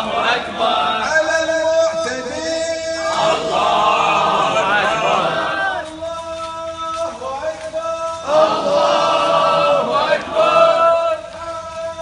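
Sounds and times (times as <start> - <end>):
men chanting in unison: 0.0 - 6.0, 7.1 - 12.0.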